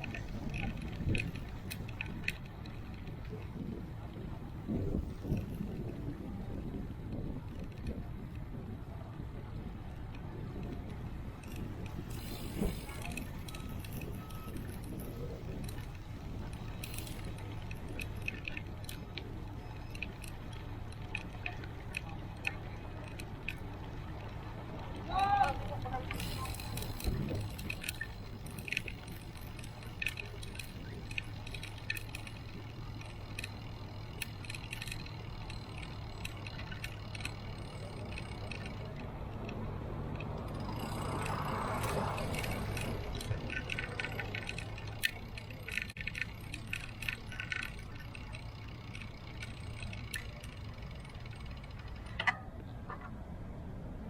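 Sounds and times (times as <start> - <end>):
bicycle rattling and clicking: 0.0 - 53.2
low hum of road noise: 0.0 - 54.0.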